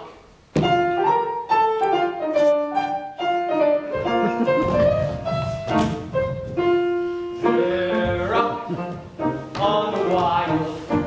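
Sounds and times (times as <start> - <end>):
piano music: 0.6 - 11.0.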